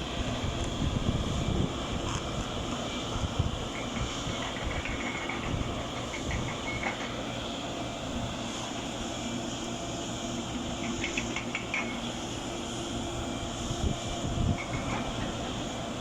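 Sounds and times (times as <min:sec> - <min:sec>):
engine running: 0:00.0 - 0:16.0
outdoor noise: 0:00.0 - 0:16.0.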